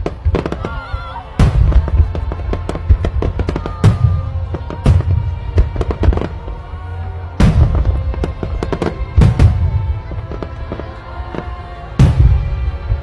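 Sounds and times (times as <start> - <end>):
background music: 0.0 - 13.0
fireworks bangs and crackles: 0.0 - 13.0
fireworks booms: 0.0 - 13.0.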